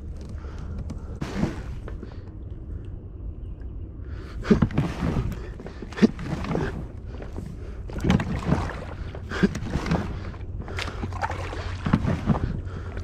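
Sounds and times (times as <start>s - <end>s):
kayak hull scraping and knocking: 0.0s - 2.2s, 4.4s - 13.0s.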